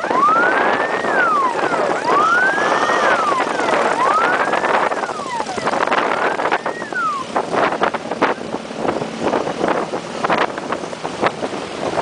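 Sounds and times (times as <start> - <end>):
rough track noise: 0.0 - 12.0
wind rush: 0.0 - 12.0.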